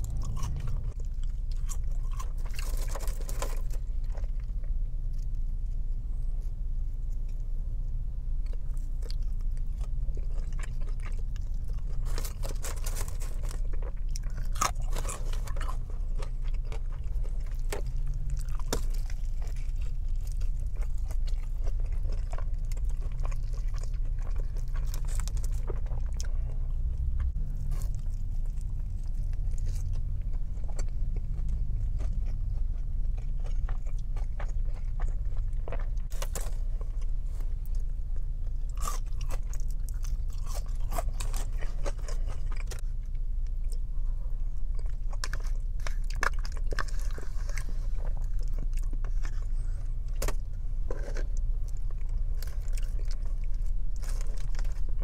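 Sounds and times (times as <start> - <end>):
chewing and biting food: 0.0 - 5.6, 8.4 - 55.0
steady low hum: 0.0 - 55.0.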